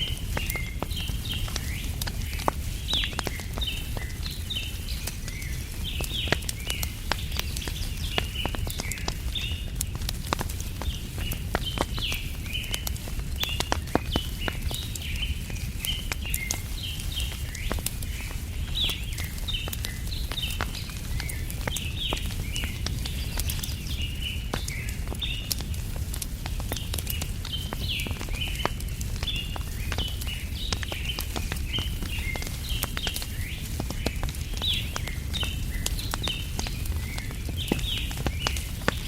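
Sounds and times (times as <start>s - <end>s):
small birds chirping: 0.0s - 39.0s
wood fire crackling and popping: 0.0s - 39.0s.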